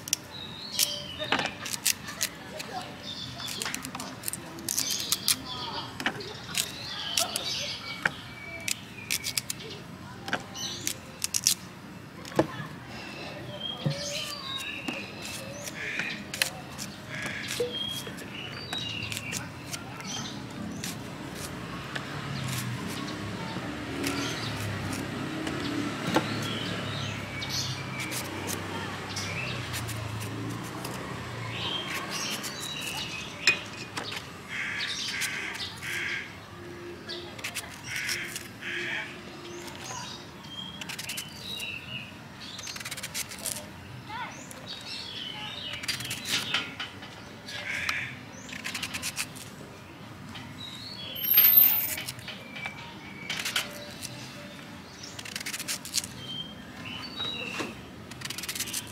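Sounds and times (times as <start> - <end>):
small birds chirping: 0.0 - 11.6, 12.4 - 58.9
street traffic hum: 0.0 - 58.9.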